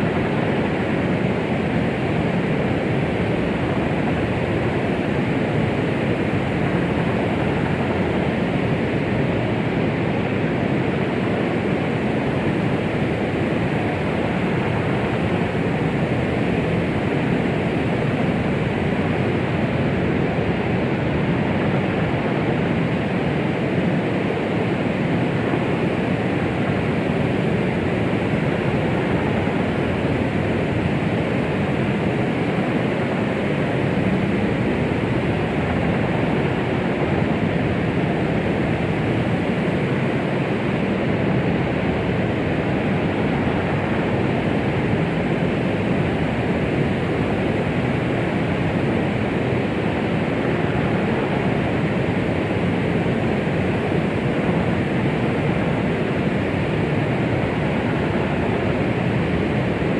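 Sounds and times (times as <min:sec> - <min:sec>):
steady white noise hiss: 0:00.0 - 0:59.9.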